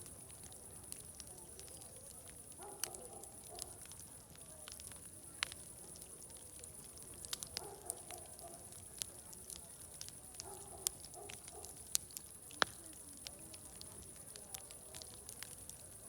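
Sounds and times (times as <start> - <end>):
distant voices chattering: 0.0 - 16.0
fire pops and snaps: 0.0 - 16.0
wood fire crackling: 0.0 - 16.0.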